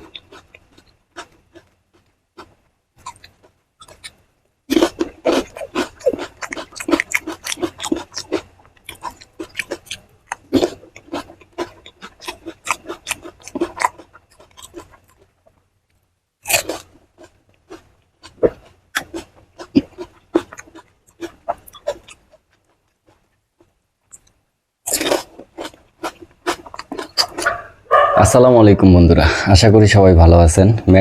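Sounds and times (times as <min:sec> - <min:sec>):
person crunching and chewing food: 0:00.0 - 0:15.7, 0:16.4 - 0:28.4.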